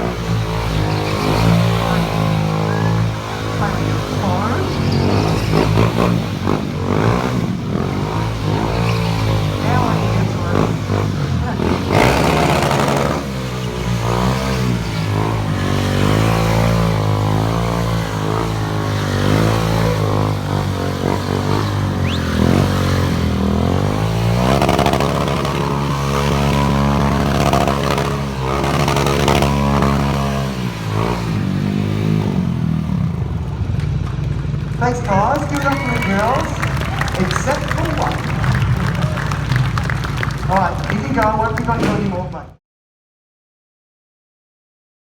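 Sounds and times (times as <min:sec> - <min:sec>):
motorcycle engine revving: 0:00.0 - 0:42.3.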